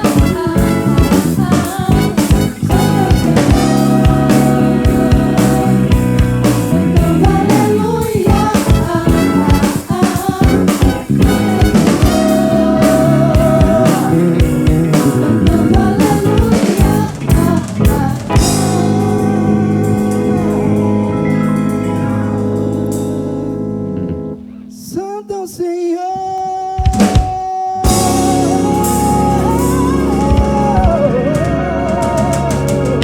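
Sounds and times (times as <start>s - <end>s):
live band music: 0.0s - 25.4s, 26.8s - 33.0s
sustained keyboard chords: 0.0s - 25.8s, 27.8s - 33.0s.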